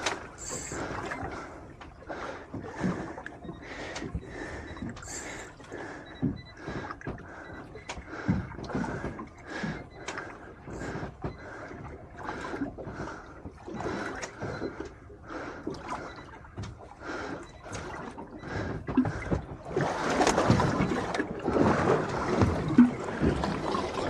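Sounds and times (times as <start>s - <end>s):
water slapping against boat hull: 0.0s - 24.0s.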